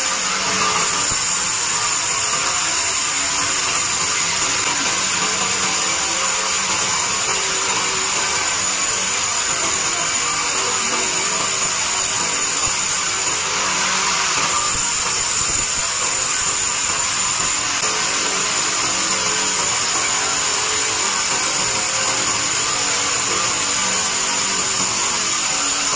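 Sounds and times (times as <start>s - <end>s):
band saw sawing a log: 0.0s - 25.9s.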